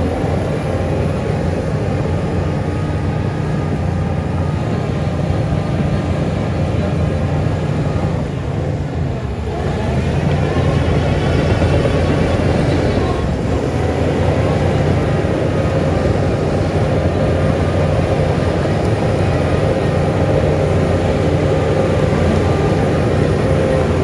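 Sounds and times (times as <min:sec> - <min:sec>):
heavy diesel engine rumbling: 0:00.0 - 0:24.0.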